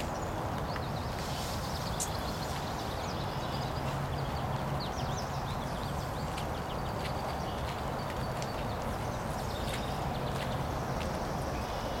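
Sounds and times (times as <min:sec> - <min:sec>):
small birds chirping: 0:00.0 - 0:12.0
steady rushing background noise: 0:00.0 - 0:12.0.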